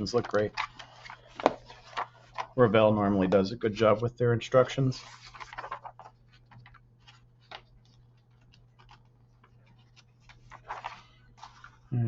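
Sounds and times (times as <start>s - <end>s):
booklet pages rustling: 0.0s - 4.0s, 4.8s - 11.9s.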